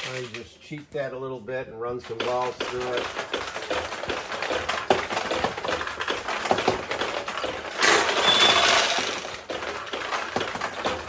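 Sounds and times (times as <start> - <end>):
pachinko balls clicking: 2.0 - 11.0
rush of rattling balls: 2.1 - 11.0.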